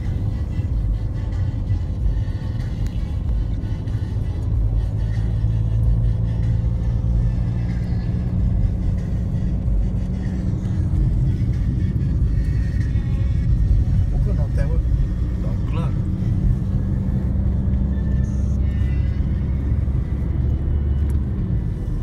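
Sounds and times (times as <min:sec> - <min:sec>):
faint music: 0:00.0 - 0:22.0
road and engine rumble: 0:00.0 - 0:22.0.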